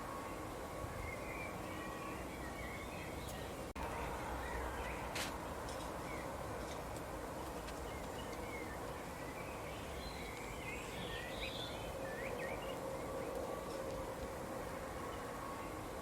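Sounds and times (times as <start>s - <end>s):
small birds chirping: 1.0s - 6.4s, 7.3s - 16.0s.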